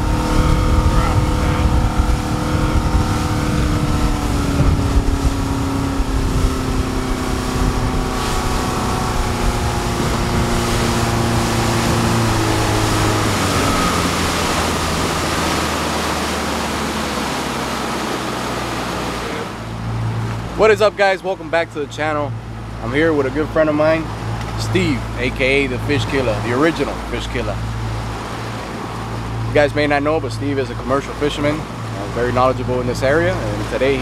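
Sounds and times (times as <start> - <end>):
motorboat engine drone: 0.0 - 34.0
rushing water: 0.0 - 34.0
wind: 0.0 - 34.0.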